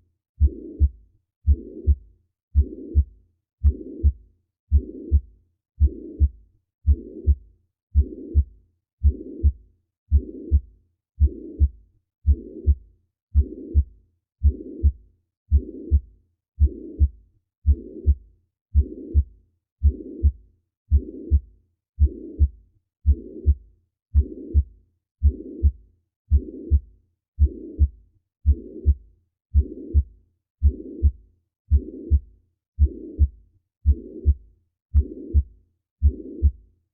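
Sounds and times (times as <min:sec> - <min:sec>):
heartbeat thumps: 0:00.4 - 0:02.0, 0:02.6 - 0:12.8, 0:13.4 - 0:23.6, 0:24.2 - 0:34.4, 0:35.0 - 0:36.6.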